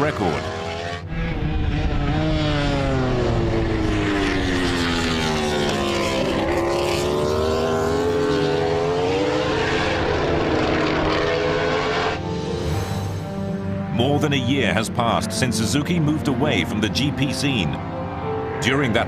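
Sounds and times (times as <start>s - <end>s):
racing motorcycle engine: 0.0s - 14.8s, 15.6s - 19.0s.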